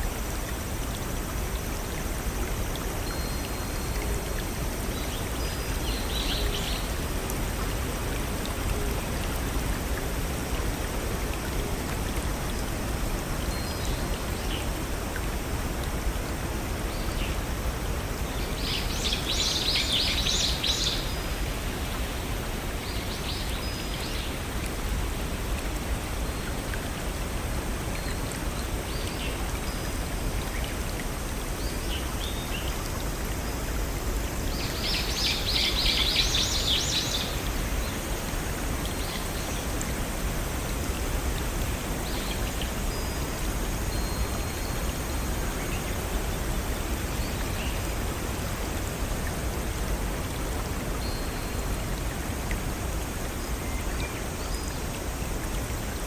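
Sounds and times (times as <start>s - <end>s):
brook and small waterfall rushing: 0.0s - 56.0s.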